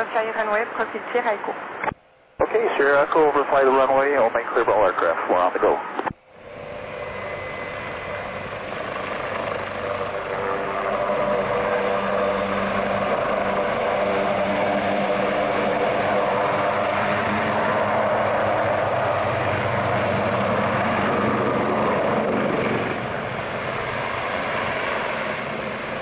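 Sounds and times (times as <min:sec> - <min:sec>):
helicopter rotor and turbine: 0:00.0 - 0:26.0.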